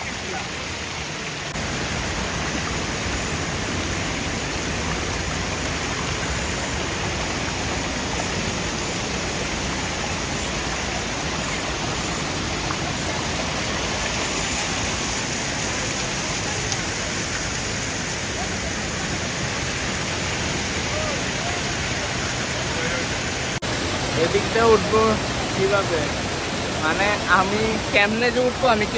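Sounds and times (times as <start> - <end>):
waterfall rushing over boulders: 0.0 - 28.9.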